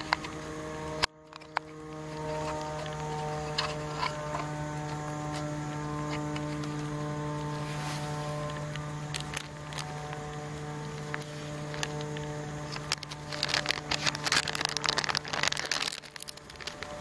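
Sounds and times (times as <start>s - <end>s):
foil wrapper crinkling: 0.0s - 17.0s
steady low hum: 0.0s - 17.0s.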